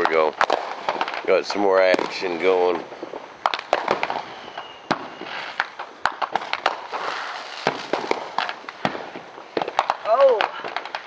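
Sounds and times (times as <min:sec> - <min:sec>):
fireworks bangs and pops: 0:00.0 - 0:11.0
steady hiss: 0:00.0 - 0:11.0.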